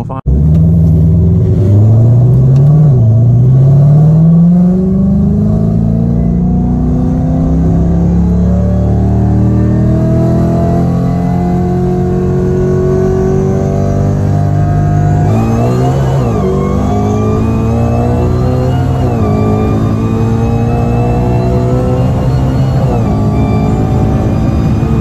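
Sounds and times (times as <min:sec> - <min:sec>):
car engine accelerating hard: 0:00.3 - 0:25.0.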